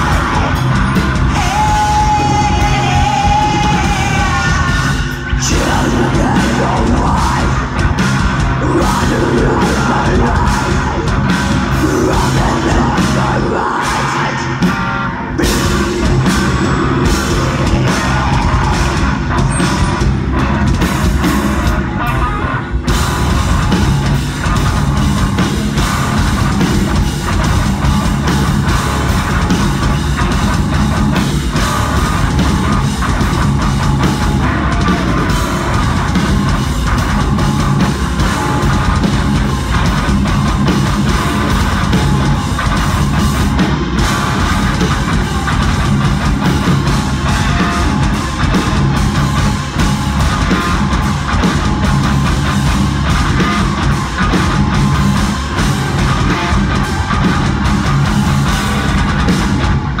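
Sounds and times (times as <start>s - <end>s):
bass guitar: 0.0s - 60.0s
distorted electric guitars: 0.0s - 60.0s
drum kit: 0.0s - 60.0s.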